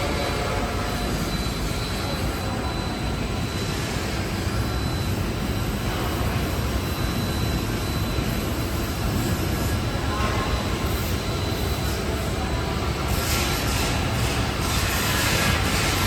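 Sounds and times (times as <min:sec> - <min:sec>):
faint high whine: 0:00.0 - 0:13.0
industrial machine running: 0:00.0 - 0:16.0.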